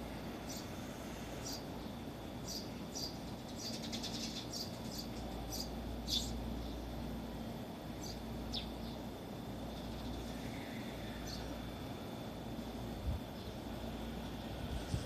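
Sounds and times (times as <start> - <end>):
faint low hum: 0.0 - 15.0
small birds chirping: 0.3 - 15.0.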